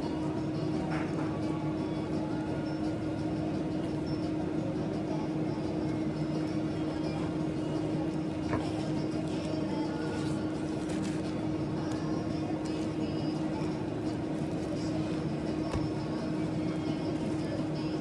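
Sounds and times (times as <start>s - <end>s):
kitchen equipment hum: 0.0s - 18.0s.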